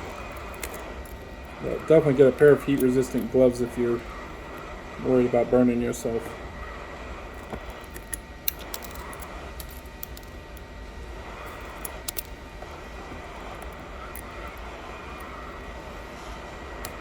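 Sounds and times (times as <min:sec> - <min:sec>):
blower whirring: 0:00.0 - 0:17.0.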